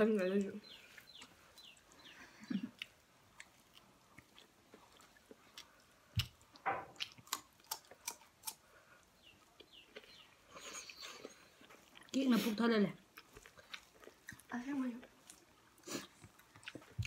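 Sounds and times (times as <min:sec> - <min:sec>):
chewing and mouth sounds: 0:00.0 - 0:17.0.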